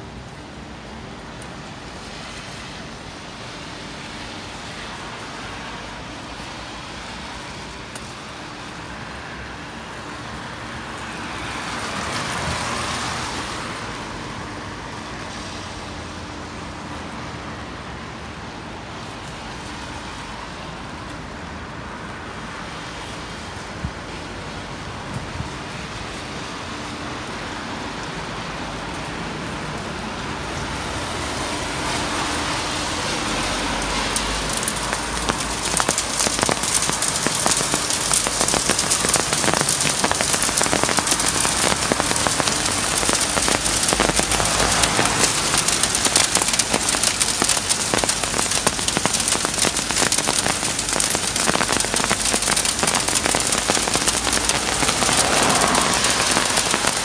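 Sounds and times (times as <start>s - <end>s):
car passing on wet road: 0.0s - 57.0s
heavy rain pattering: 0.0s - 57.0s.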